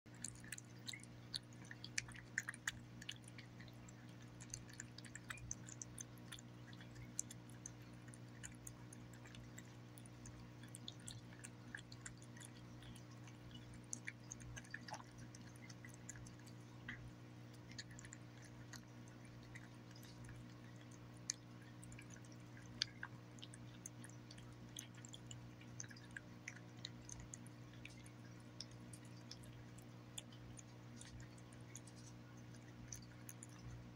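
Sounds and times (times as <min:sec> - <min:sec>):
cat chewing and lapping: 0:00.1 - 0:33.9
steady low hum: 0:00.1 - 0:33.9.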